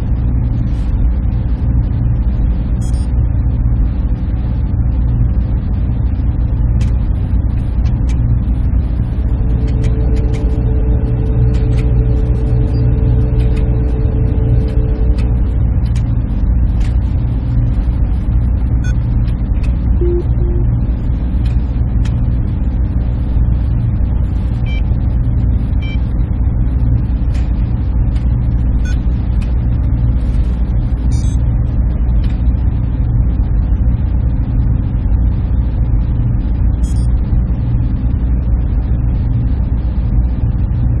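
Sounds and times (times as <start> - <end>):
machine room equipment hum: 0.0 - 41.0.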